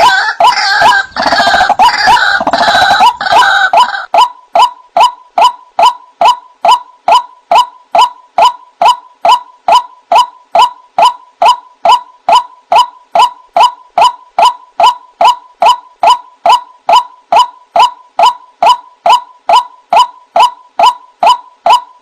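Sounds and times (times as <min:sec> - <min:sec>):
waterhen calling: 0:00.0 - 0:21.9.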